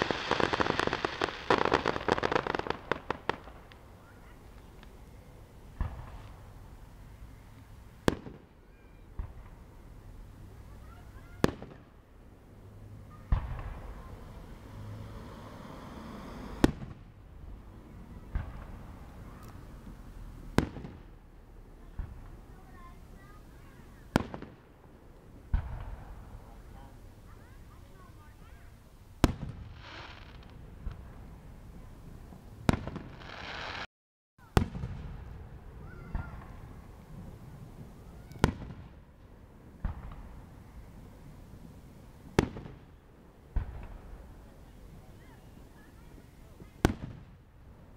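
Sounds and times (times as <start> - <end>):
fireworks bangs: 0.0 - 12.0, 12.9 - 21.2, 21.8 - 39.2, 39.8 - 47.4
fireworks rumble and crackle: 0.0 - 47.9.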